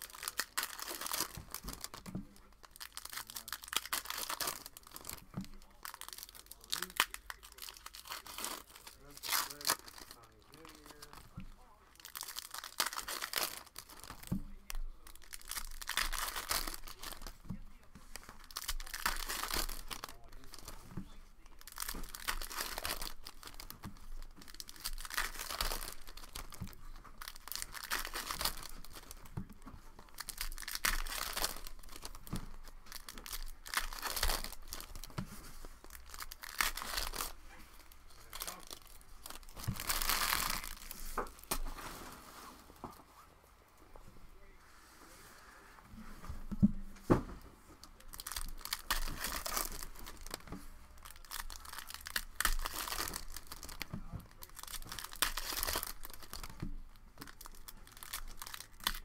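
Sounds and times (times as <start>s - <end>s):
foil wrappers tearing and crinkling: 0.0s - 42.8s, 47.9s - 59.0s.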